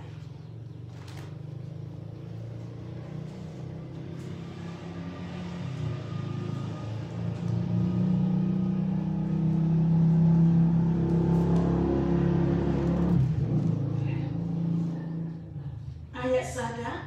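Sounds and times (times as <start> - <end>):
vehicle engine running: 0.0 - 16.7.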